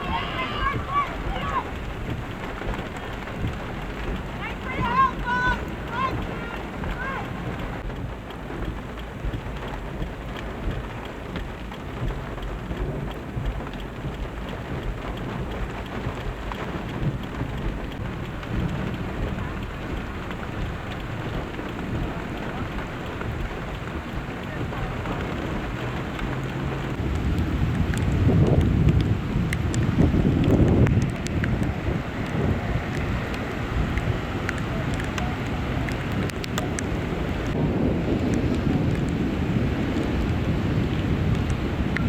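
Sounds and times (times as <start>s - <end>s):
torrential rain pouring: 0.0s - 42.0s.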